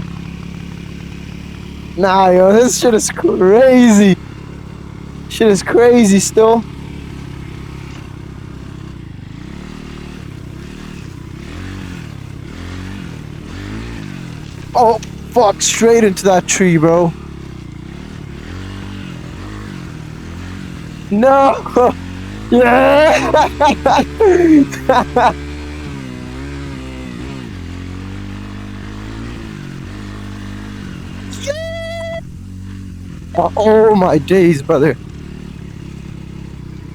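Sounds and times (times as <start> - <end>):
motorcycle engine revving: 0.0 - 31.4, 32.2 - 34.2, 35.0 - 36.9.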